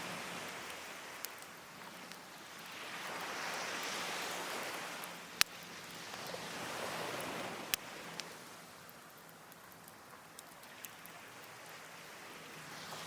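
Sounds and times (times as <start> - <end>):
burning logs popping: 0.0 - 4.0, 4.8 - 6.4, 7.0 - 11.9
waves washing on shore: 0.0 - 13.0
wood fire crackling: 0.0 - 13.0.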